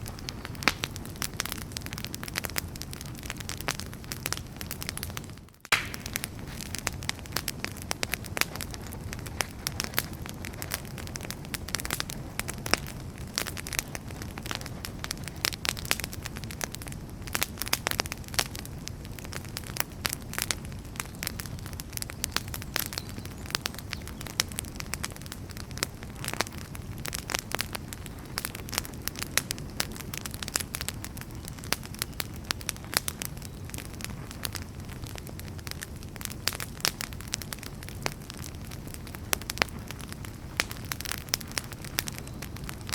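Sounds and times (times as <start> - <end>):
firewood crackling and popping: 0.0 - 42.9
low rumble of flames: 0.0 - 42.9.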